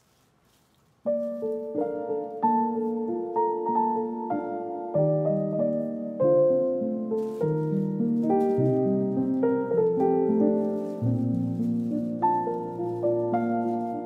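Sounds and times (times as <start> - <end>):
slow piano melody: 1.0 - 14.0.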